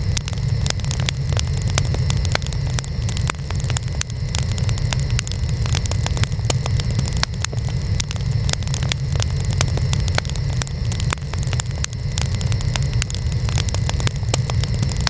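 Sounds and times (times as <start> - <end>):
burning wood crackling: 0.0 - 15.0
roar of flames: 0.0 - 15.0.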